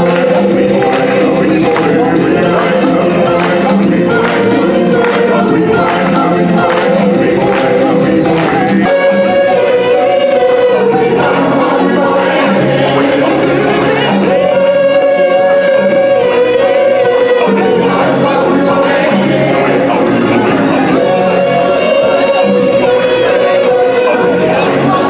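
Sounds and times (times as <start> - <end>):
choir singing: 0.0 - 25.0.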